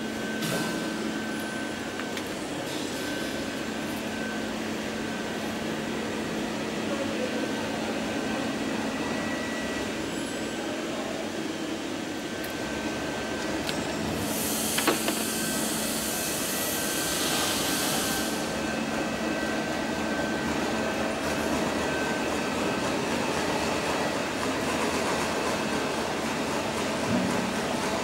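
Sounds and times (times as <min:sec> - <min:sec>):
factory machinery noise: 0:00.0 - 0:28.0.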